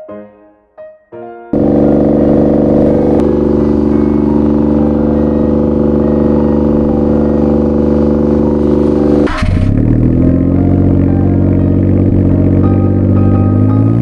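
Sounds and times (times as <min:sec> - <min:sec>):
van engine idling: 0:01.6 - 0:14.0.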